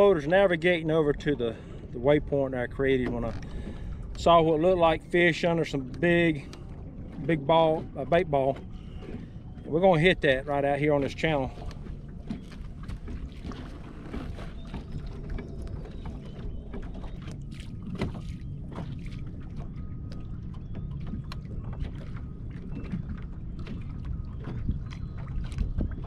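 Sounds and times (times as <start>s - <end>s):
trolling motor whine: 0.0s - 26.0s
waves slapping boat hull: 0.0s - 26.0s
wind rumbling on microphone: 0.0s - 26.0s.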